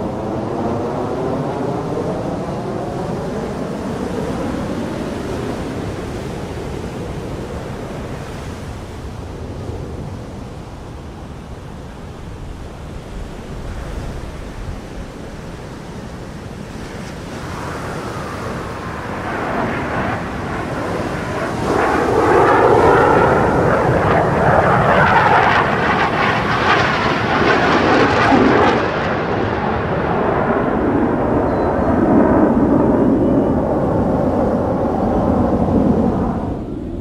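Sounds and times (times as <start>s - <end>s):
fighter jet flying past: 0.0s - 37.0s.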